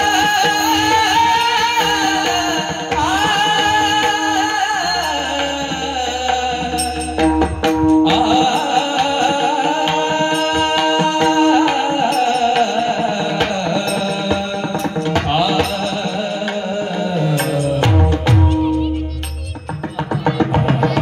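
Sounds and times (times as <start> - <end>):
devotional song: 0.0 - 21.0
percussion strokes: 0.0 - 21.0.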